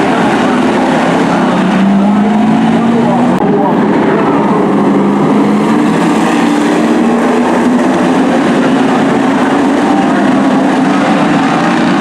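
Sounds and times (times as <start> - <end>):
truck engines droning: 0.0 - 12.0.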